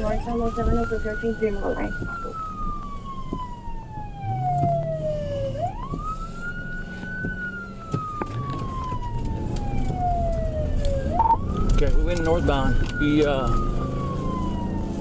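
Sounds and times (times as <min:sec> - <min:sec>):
car engine running: 0:00.0 - 0:15.0
police siren wailing: 0:00.0 - 0:15.0.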